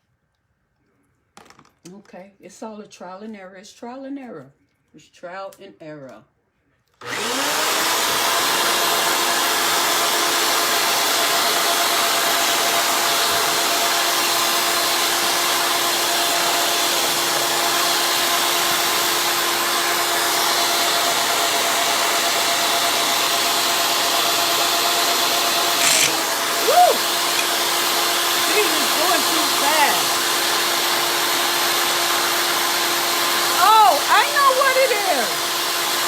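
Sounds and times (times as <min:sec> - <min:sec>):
electric drill motor whine: 0:07.0 - 0:36.0.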